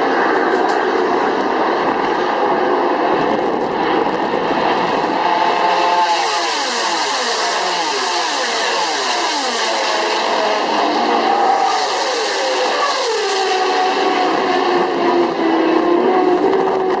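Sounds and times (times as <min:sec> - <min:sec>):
high-revving racing engines: 0:00.0 - 0:17.0.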